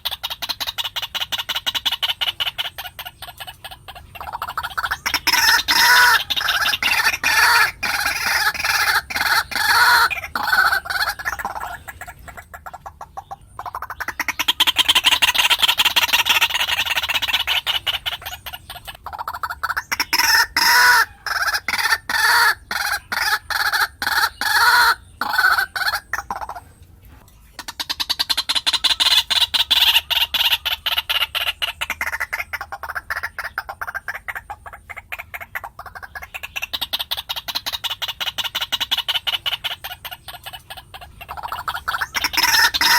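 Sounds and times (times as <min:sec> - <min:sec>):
bird harsh clucking calls: 0:00.0 - 0:42.9.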